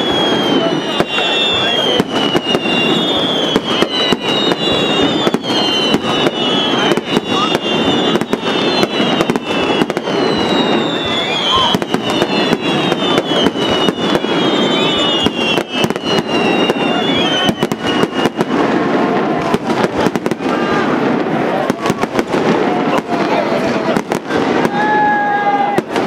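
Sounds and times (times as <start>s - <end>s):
fireworks whistles falling in pitch: 0.0s - 23.1s
fireworks bangs and crackles: 0.0s - 26.0s.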